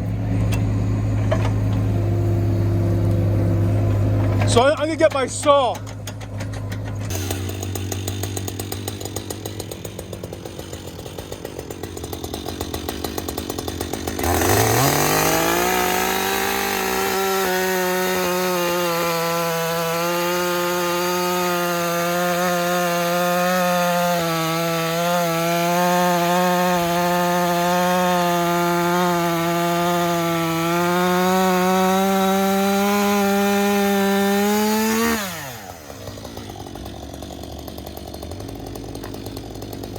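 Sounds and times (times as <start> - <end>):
chainsaw at full throttle: 0.0 - 5.7, 7.1 - 39.9.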